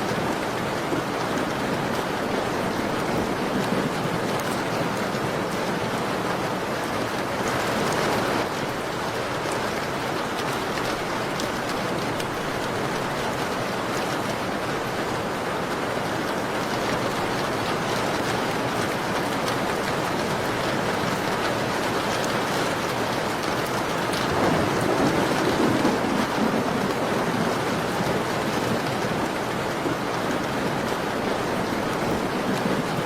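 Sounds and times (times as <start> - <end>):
rain against a window: 0.0 - 33.0.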